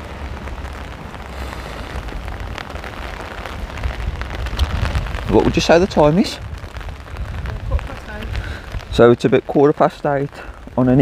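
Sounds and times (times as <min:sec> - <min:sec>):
low rumble: 0:00.0 - 0:09.5
rain falling: 0:00.0 - 0:11.0.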